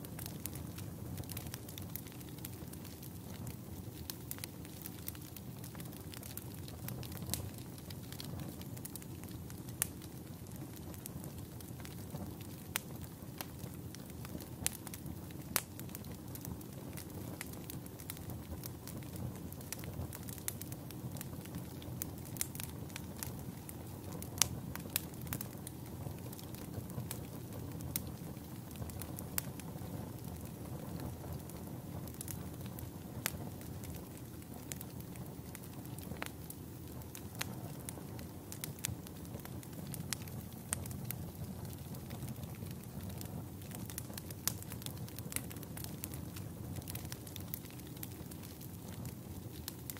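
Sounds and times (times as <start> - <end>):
campfire burning: 0.0 - 49.9
wood crackling and popping: 0.0 - 49.9.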